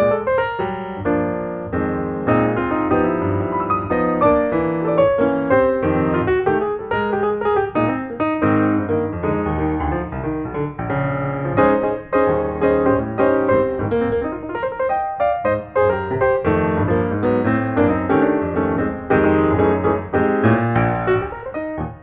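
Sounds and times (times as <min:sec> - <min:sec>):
background piano music: 0:00.0 - 0:22.0.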